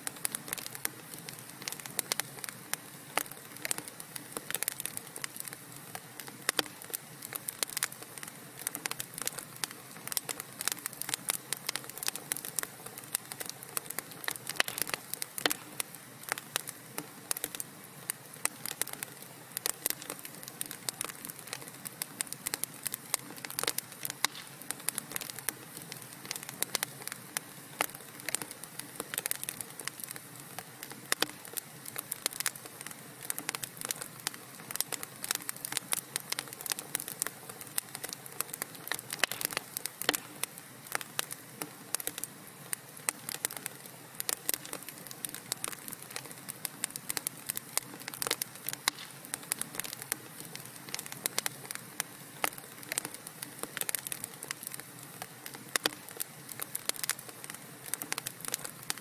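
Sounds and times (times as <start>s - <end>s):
fire hissing: 0.0s - 59.0s
wood fire crackling: 0.0s - 59.0s.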